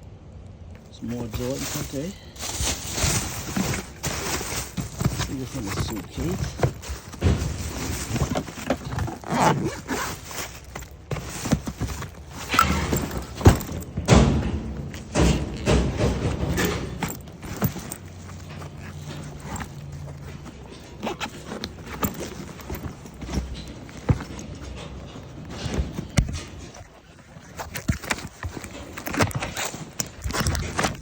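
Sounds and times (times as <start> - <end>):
knocks and thumps of rummaging: 0.8 - 31.0
suitcase unzipping: 1.0 - 14.1, 15.2 - 31.0.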